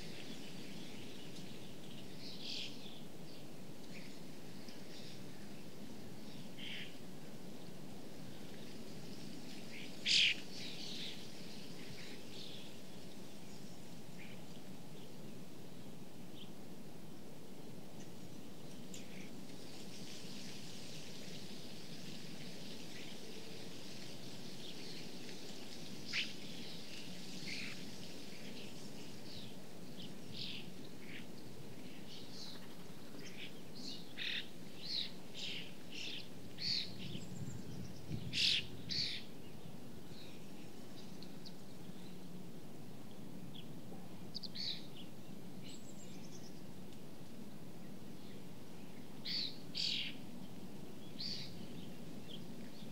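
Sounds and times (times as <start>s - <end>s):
low background noise: 0.0s - 52.9s.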